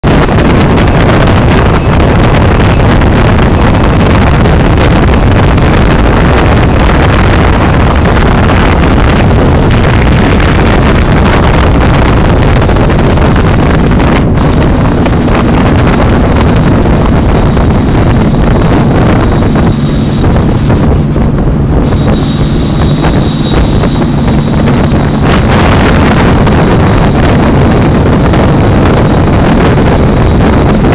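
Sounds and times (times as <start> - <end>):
motorboat engine droning: 0.0 - 30.9
wind rumble on microphone: 0.0 - 30.9.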